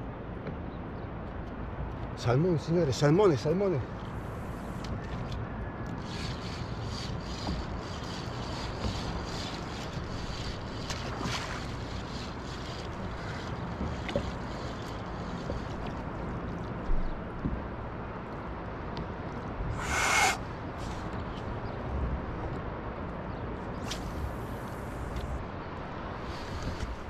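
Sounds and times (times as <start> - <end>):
water against kayak: 3.8 - 27.0.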